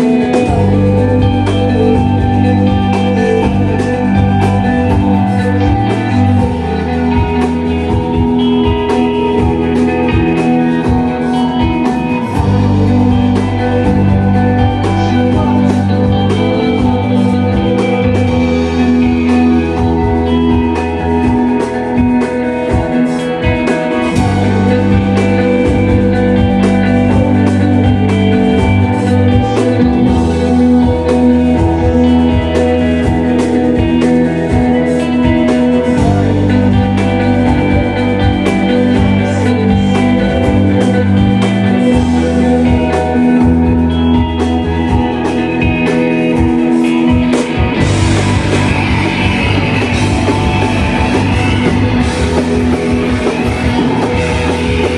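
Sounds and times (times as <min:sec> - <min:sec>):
bass notes: 0:00.0 - 0:54.9
drums: 0:00.0 - 0:54.9
electric guitar chords: 0:00.0 - 0:54.9.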